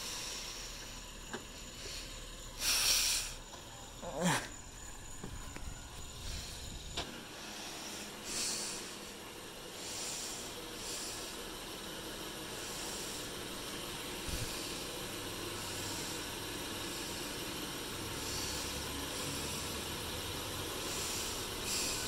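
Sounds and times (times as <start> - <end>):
pickup truck engine idling: 0.0 - 22.0.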